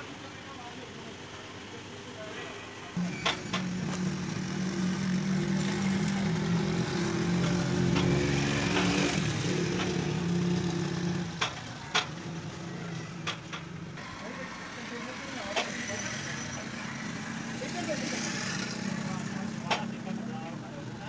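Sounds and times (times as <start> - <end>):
engine running: 3.0 - 21.0.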